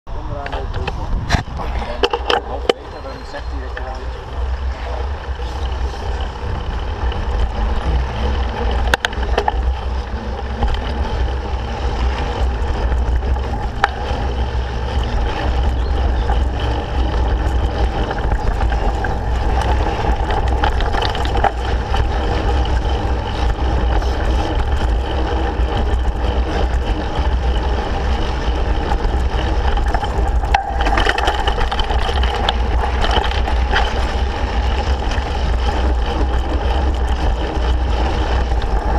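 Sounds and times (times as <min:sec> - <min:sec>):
bike knocking and rattling: 0:00.1 - 0:38.9
tyres on dirt: 0:00.1 - 0:38.9
wind rumble: 0:00.1 - 0:38.9.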